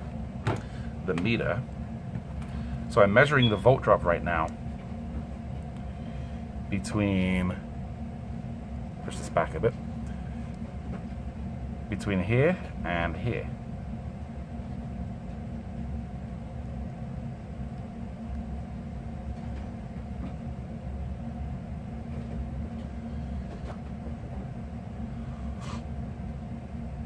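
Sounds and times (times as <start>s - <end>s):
low hum and rumble: 0.0s - 27.0s.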